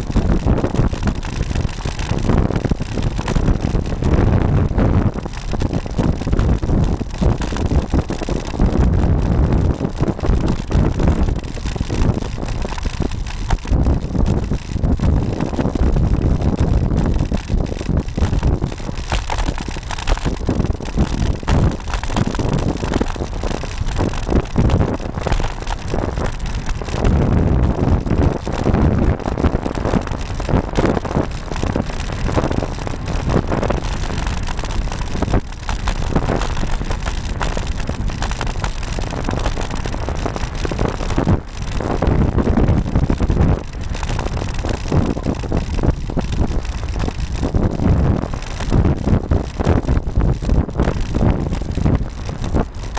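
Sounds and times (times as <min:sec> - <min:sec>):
bike jolting over bumps: 0:00.0 - 0:52.9
road and tyre rumble: 0:00.0 - 0:52.9
wind buffeting microphone: 0:00.0 - 0:52.9.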